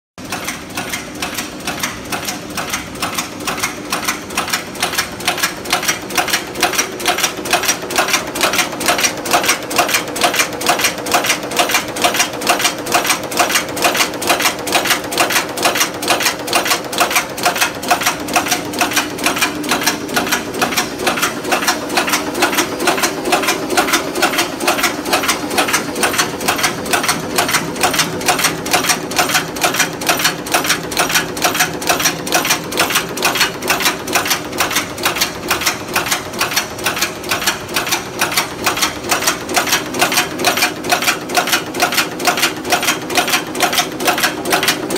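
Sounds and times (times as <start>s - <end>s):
rapid metallic clacks: 0.2s - 44.9s
machine hum: 1.5s - 44.9s.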